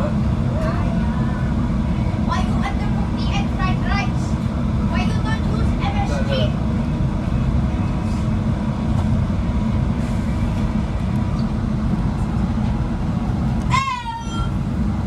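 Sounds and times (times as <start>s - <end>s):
train diesel engine rumble: 0.0s - 15.0s.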